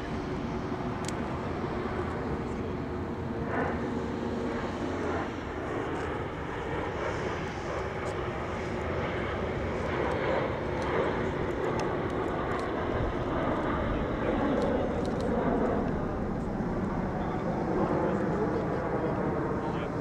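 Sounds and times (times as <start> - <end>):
jet engines flying overhead: 0.0 - 20.0.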